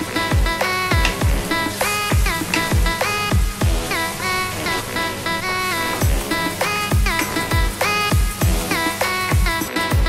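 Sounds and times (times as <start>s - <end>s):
electronic music with sliding melody: 0.0s - 10.0s.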